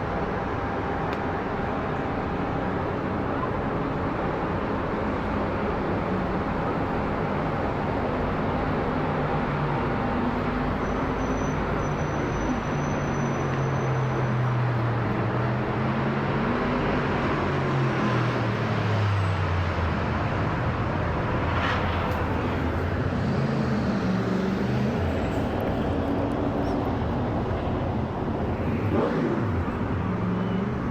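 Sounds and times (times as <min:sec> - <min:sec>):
jet engines droning overhead: 0:00.0 - 0:30.9.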